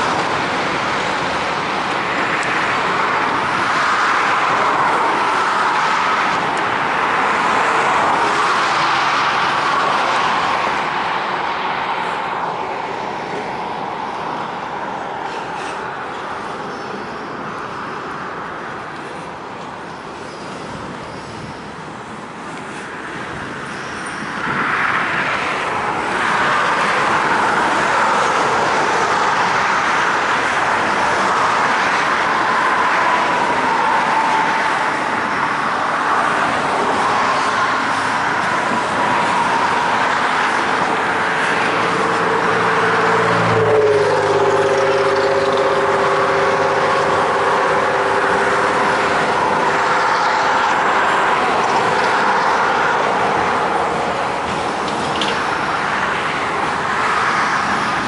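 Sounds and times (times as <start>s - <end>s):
highway traffic: 0.0s - 58.0s
rail cars rolling on tracks: 0.0s - 58.0s.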